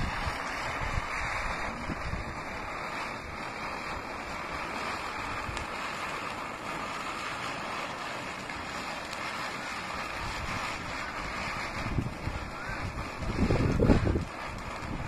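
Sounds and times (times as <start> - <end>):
ground spinner firework hissing: 0.0 - 15.0.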